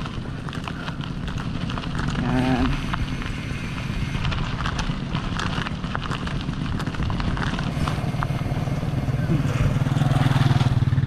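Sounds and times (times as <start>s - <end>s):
bike rattles and knocks: 0.0s - 11.0s
bike rolling on dirt track: 0.0s - 11.0s.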